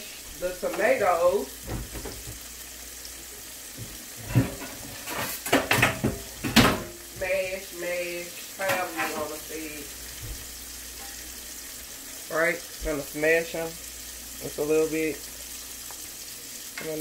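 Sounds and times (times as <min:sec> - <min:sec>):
sauce boiling and sizzling: 0:00.0 - 0:17.0.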